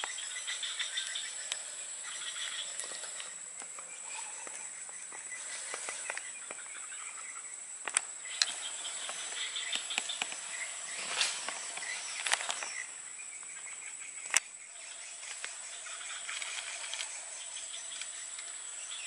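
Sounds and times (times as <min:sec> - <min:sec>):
bird chirps: 0:00.0 - 0:19.0
insect drone: 0:00.0 - 0:19.0.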